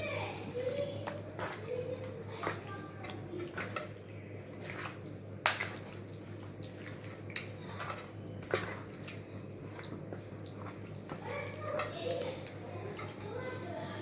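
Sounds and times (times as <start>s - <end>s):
hand squelching raw chicken: 0.0s - 13.7s
sharp wet slaps: 0.7s - 13.2s.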